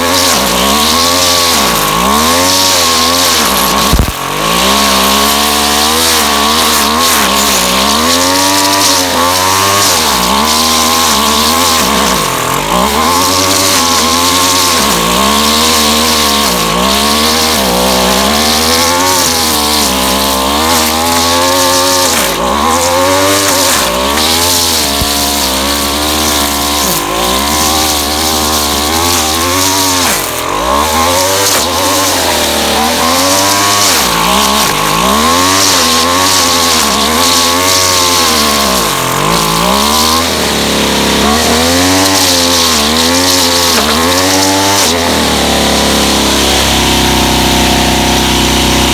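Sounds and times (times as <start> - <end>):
string trimmer running: 0.0 - 48.9.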